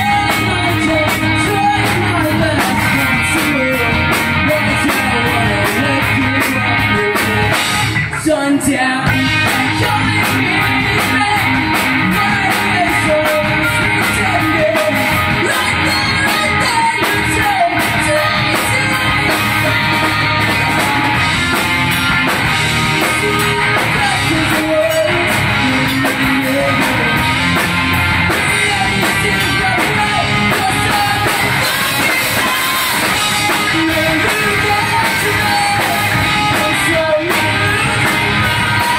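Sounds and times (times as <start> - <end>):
distorted electric guitars: 0.0 - 38.9
drum kit: 0.0 - 38.9
electric bass: 0.0 - 38.9
lead vocal singing: 0.0 - 38.9.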